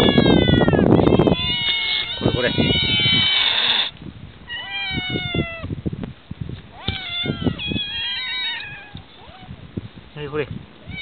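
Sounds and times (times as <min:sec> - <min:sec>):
cats meowing: 0:00.0 - 0:05.7, 0:06.7 - 0:09.6, 0:10.8 - 0:11.0.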